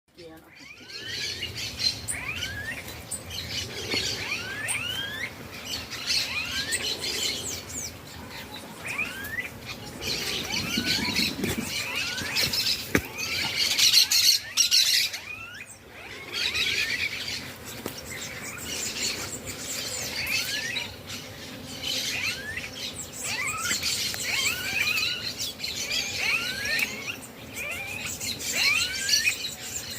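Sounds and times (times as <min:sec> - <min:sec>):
birds chirping and calling: 0:00.1 - 0:29.9.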